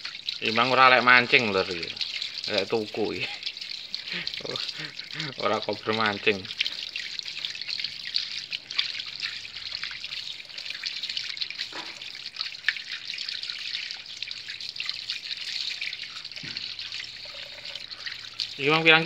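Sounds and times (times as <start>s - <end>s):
small wet clicks: 0.0s - 19.0s
tap water running: 0.0s - 19.0s
water spattering on concrete: 0.0s - 19.0s.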